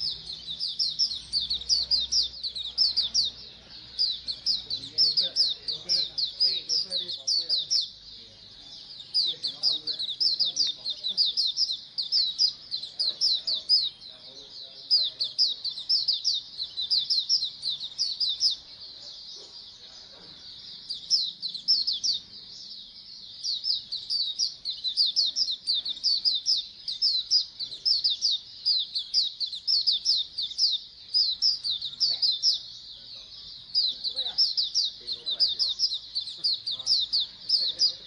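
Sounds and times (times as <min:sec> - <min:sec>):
flock of birds chirping: 0:00.0 - 0:38.0.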